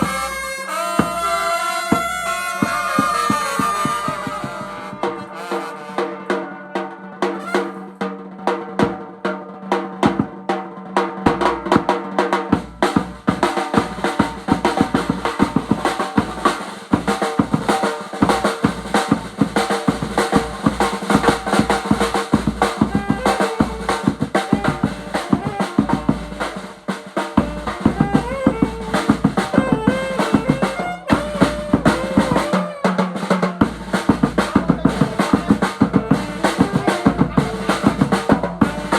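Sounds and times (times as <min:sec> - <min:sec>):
snare and bass drum beats: 0:00.0 - 0:06.6, 0:07.2 - 0:38.9
funeral band music: 0:00.0 - 0:38.9.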